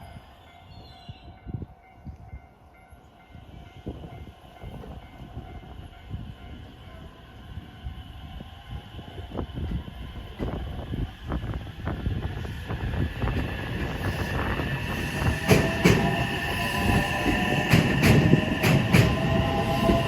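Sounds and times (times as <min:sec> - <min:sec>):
train running with whining tones: 0:00.0 - 0:20.0
wind buffeting microphone: 0:03.2 - 0:20.0.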